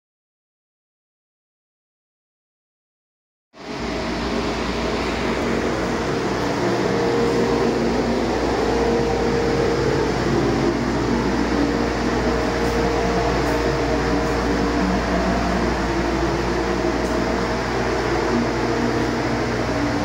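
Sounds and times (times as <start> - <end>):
diesel engine running steadily: 3.6 - 20.0.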